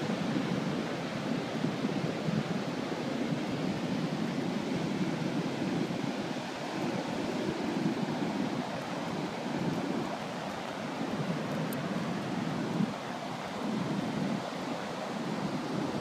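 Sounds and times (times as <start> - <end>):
ocean surf rushing: 0.0 - 16.0
wind on microphone: 0.0 - 16.0.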